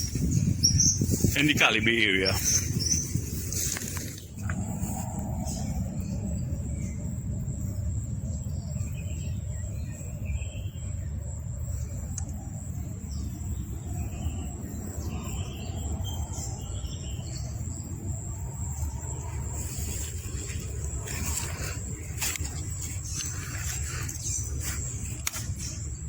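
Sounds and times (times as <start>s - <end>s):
insects trilling: 0.0s - 26.0s
steady low rumble: 0.0s - 26.0s.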